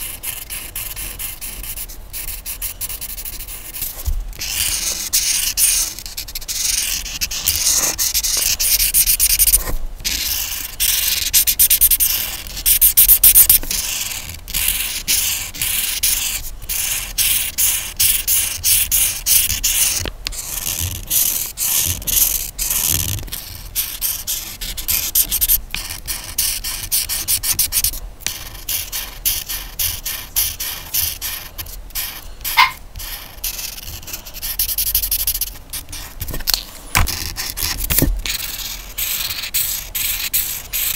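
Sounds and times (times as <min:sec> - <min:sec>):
colouring strokes on paper: 0:00.0 - 0:40.9.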